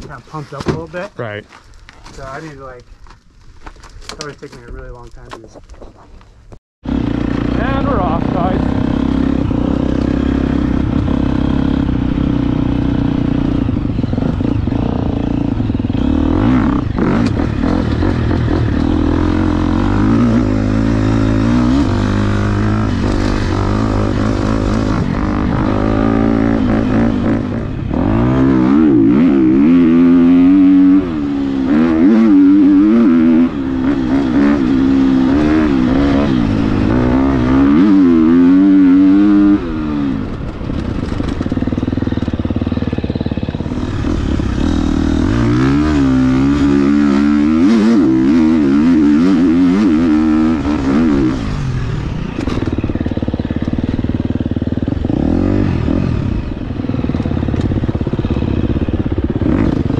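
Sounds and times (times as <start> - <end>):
dirt bike engine revving: 6.8 - 59.9.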